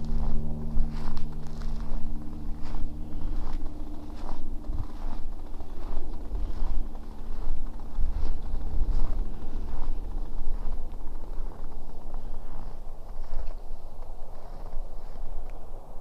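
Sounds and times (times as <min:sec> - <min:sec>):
footsteps on ice: 0:00.0 - 0:15.3
low engine hum: 0:00.0 - 0:16.0.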